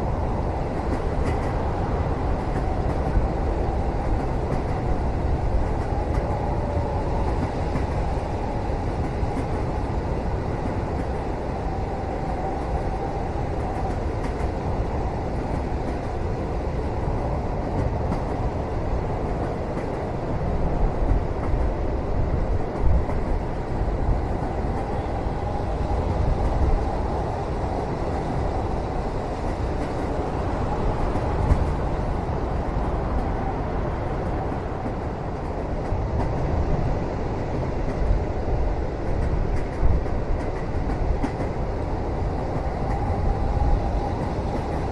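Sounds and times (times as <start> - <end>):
train carriage rumbling on rails: 0.0 - 44.9.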